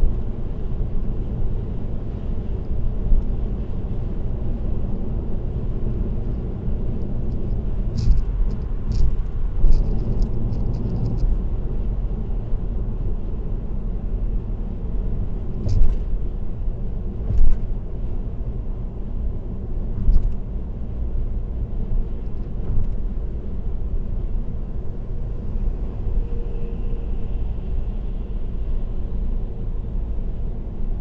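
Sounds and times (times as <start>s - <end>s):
car road and tyre rumble: 0.0s - 31.0s.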